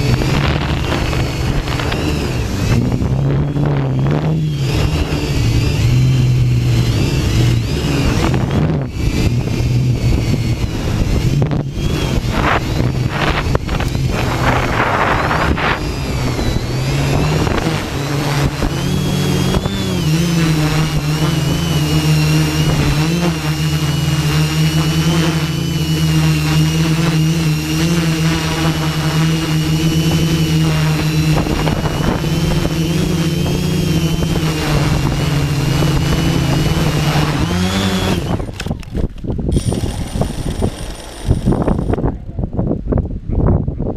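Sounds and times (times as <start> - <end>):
drone motors humming and whining: 0.0 - 42.4
wind buffeting microphone: 0.0 - 43.9.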